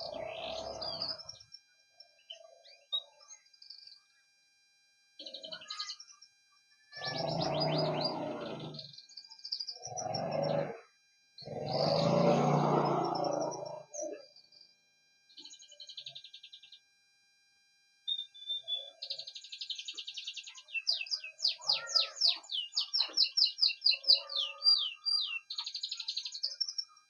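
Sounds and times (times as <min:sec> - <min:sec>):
canary singing with fast trills: 0:00.0 - 0:04.0, 0:05.2 - 0:10.8, 0:11.4 - 0:14.7, 0:18.1 - 0:27.0.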